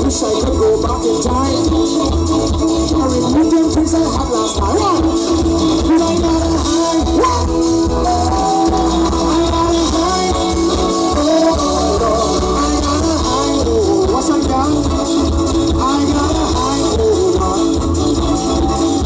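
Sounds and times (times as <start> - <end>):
live band music: 0.0 - 19.0
man singing: 0.0 - 19.0.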